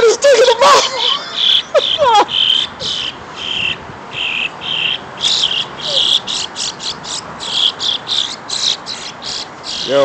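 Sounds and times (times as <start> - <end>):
insects chirring: 1.4 - 10.0.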